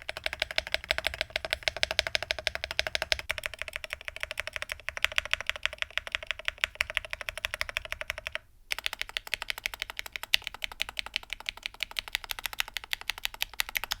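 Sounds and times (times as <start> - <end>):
fast mechanical keyboard typing: 0.0 - 14.0.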